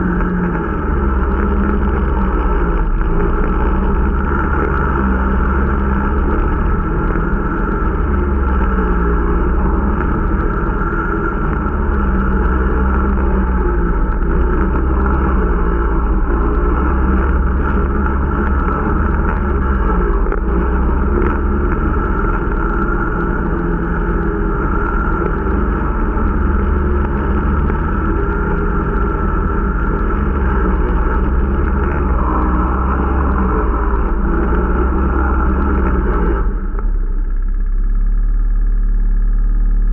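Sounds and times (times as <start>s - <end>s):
snowmobile engine droning: 0.0s - 39.9s.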